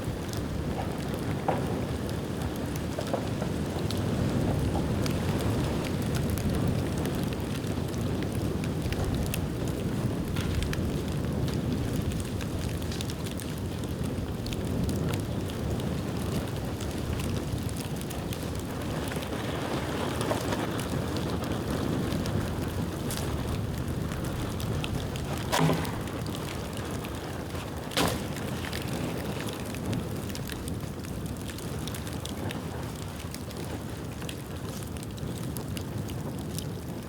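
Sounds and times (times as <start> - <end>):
bonfire flames rushing: 0.0 - 37.0
bamboo crackling: 5.0 - 36.7.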